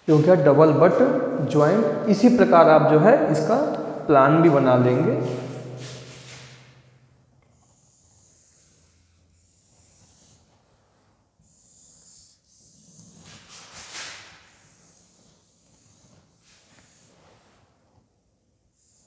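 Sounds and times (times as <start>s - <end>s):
marker pen on whiteboard: 0.0s - 2.6s, 3.4s - 18.1s.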